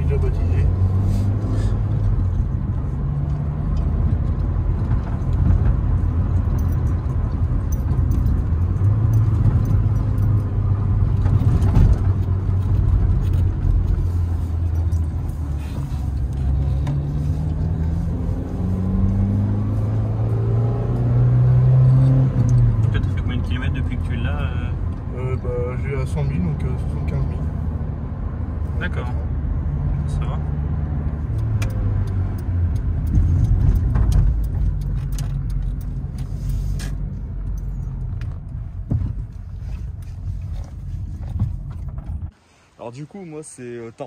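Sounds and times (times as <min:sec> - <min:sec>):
car engine from inside cabin: 0:00.0 - 0:42.6.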